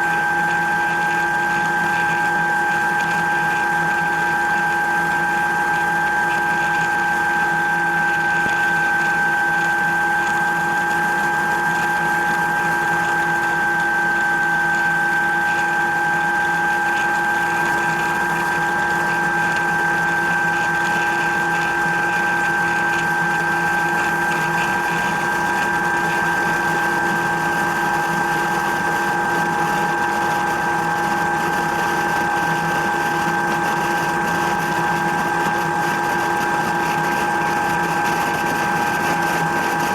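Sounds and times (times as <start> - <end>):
helicopter drone with whining tones: 0.0 - 39.9.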